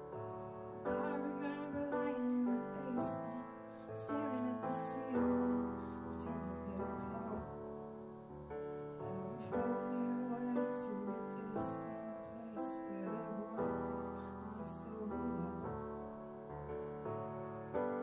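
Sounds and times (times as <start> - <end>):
grand piano chords: 0.0 - 18.0.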